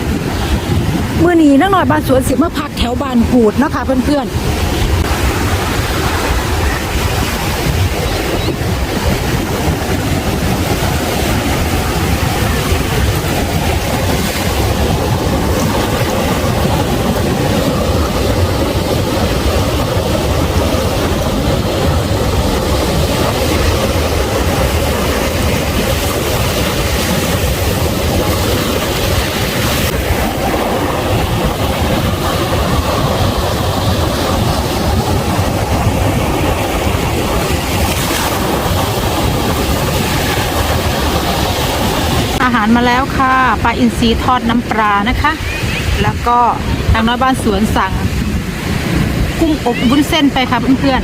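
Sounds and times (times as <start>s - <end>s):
sea waves washing onto beach: 0.0s - 51.0s
wind buffeting microphone: 0.0s - 51.0s.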